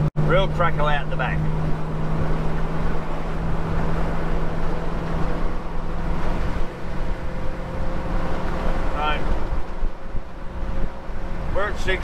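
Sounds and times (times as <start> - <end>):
car engine and exhaust droning: 0.0 - 12.0
road noise: 0.0 - 12.0
wind noise: 1.4 - 12.0.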